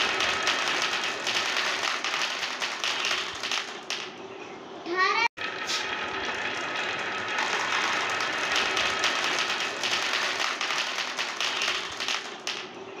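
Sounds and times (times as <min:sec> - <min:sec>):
marbles rattling down wooden slope: 0:00.0 - 0:04.1, 0:05.4 - 0:12.7.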